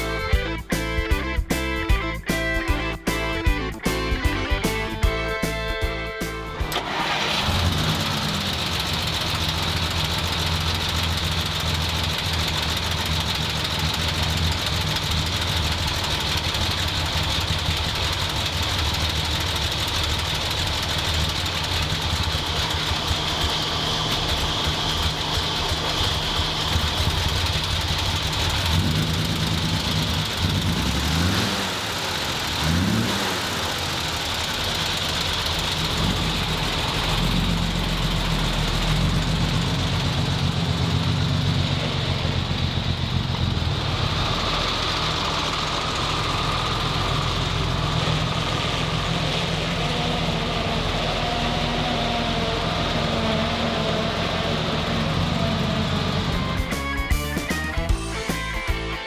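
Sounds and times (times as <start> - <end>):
truck engine idling and revving: 0.0 - 59.0.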